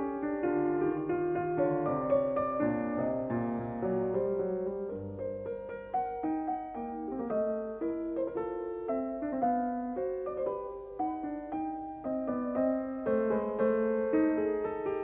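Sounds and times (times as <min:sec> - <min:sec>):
piano melody with chords: 0:00.0 - 0:15.0.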